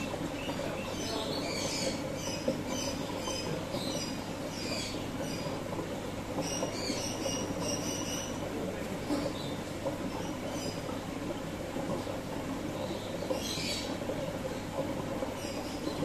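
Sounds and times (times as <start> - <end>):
aquarium filter hum: 0.0 - 16.0
flowing water rumble: 0.0 - 16.0
small birds chirping: 0.0 - 16.0.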